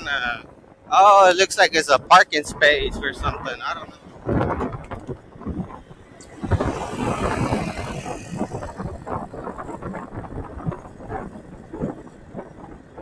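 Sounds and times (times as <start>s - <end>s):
gusty wind noise: 0.0s - 13.0s.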